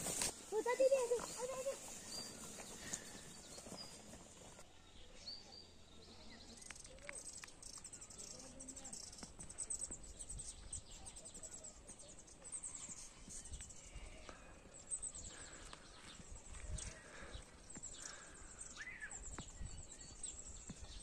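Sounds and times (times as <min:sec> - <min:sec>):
faint distant voices: 0:00.5 - 0:19.3.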